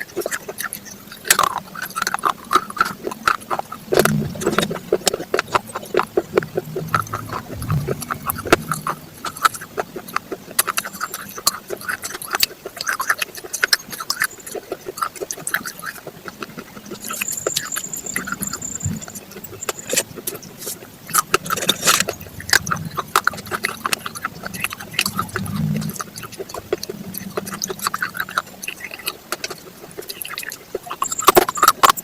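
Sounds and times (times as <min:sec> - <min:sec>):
raw vegetables being chewed: 0:00.0 - 0:32.0.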